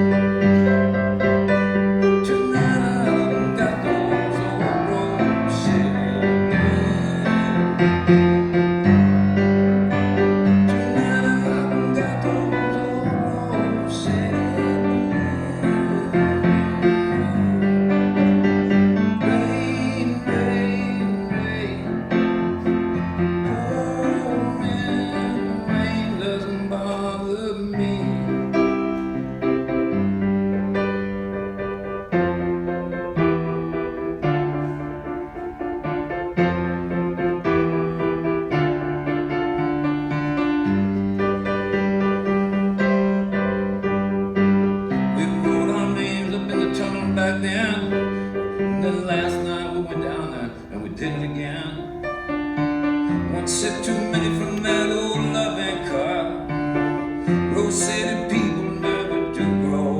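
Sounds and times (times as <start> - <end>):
piano: 0.0 - 59.9.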